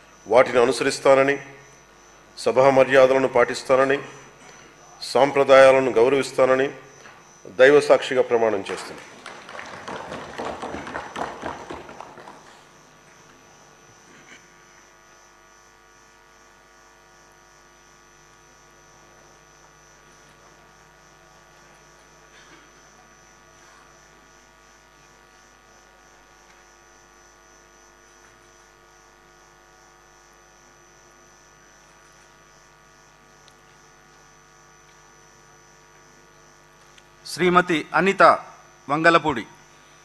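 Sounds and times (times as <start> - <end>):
faint electrical mains hum: 0.0 - 40.0.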